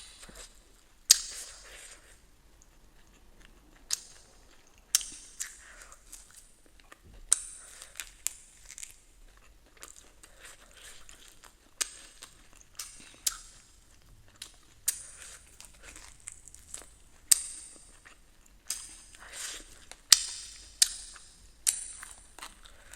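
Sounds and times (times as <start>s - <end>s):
crunchy chewing: 0.0s - 22.9s.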